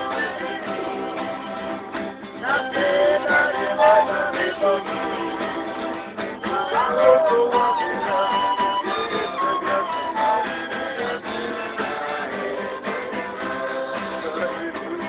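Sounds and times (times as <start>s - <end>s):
clarinet: 0.0s - 15.0s
small ensemble playing a hymn: 0.0s - 15.0s.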